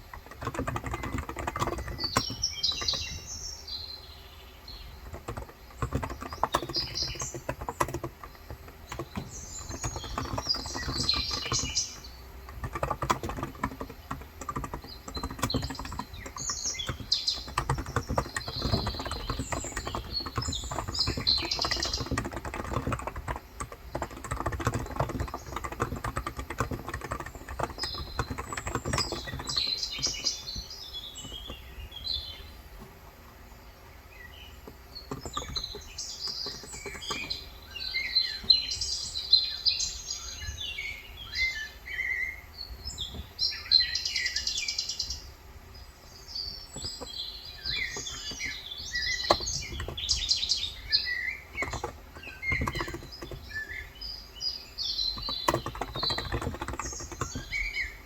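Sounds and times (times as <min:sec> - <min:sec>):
rapid keyboard typing: 0:00.0 - 0:33.3, 0:34.0 - 0:40.9, 0:46.3 - 0:58.0
small birds chirping: 0:00.0 - 0:58.0.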